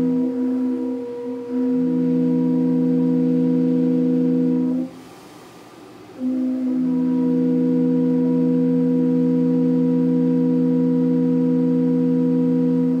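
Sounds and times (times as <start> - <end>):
wooden organ pipes sounding: 0.0 - 4.9, 6.2 - 13.0.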